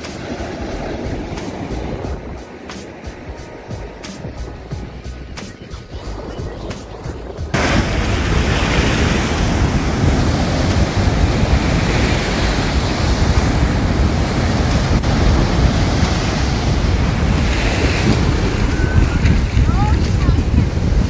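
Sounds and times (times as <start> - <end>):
surf breaking on beach: 0.0 - 4.6, 7.5 - 21.0
wind buffeting microphone: 0.0 - 21.0.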